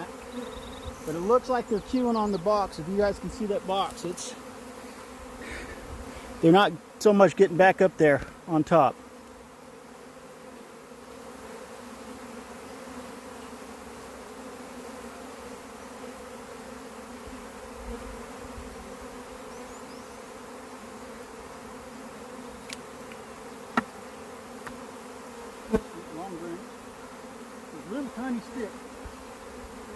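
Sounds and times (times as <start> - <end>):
bees buzzing: 0.0 - 29.9.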